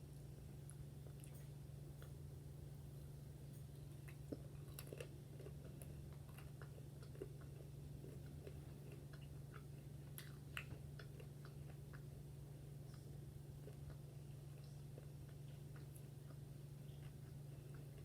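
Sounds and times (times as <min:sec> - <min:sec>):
steady low hum: 0:00.0 - 0:18.0
chewing crunchy food: 0:00.6 - 0:02.2, 0:03.5 - 0:18.0.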